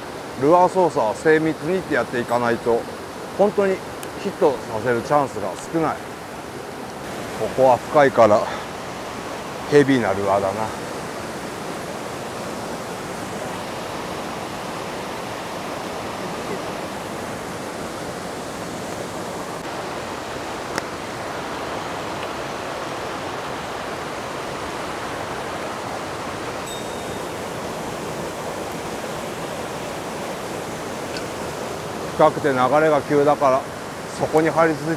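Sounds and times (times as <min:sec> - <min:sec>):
mountain stream rushing: 0:00.0 - 0:34.9.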